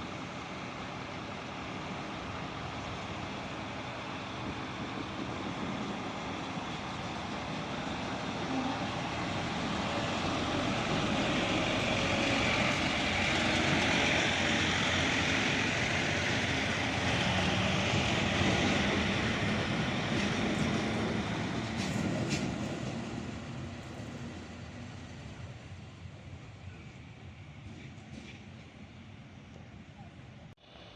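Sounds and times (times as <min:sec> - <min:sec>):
train wheels rushing on rails: 0:00.0 - 0:30.1.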